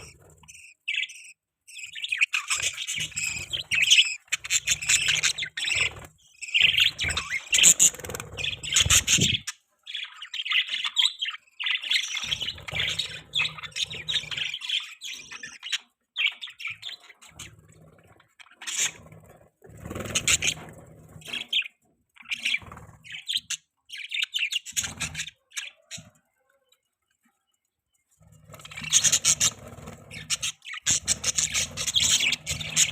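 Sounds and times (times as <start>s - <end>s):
budgerigars chirping and warbling: 0.0s - 32.9s.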